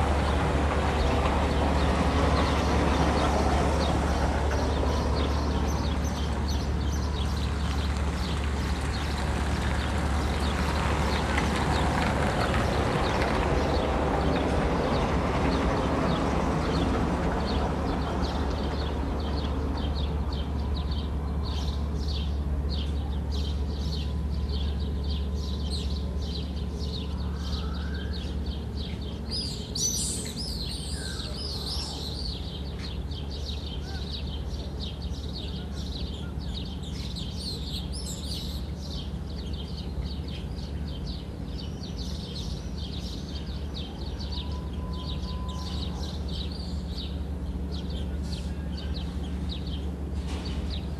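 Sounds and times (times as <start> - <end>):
low machinery hum: 0.0 - 50.9
small birds chirping: 0.0 - 50.9.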